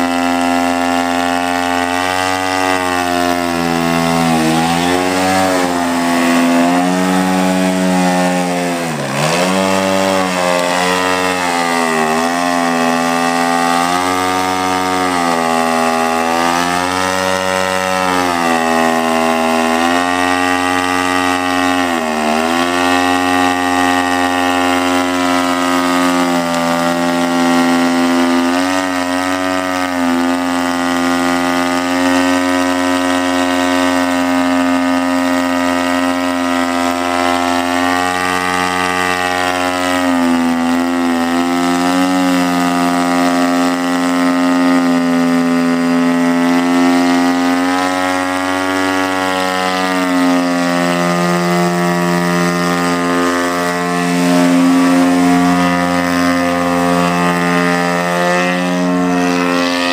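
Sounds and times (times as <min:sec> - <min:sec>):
model airplane engine and propeller: 0:00.0 - 0:59.9.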